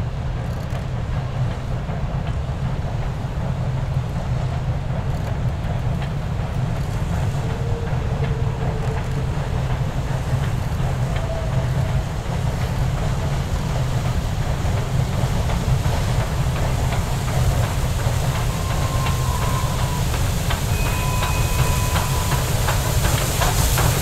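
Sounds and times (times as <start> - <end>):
steam locomotive rumble: 0.0 - 24.0.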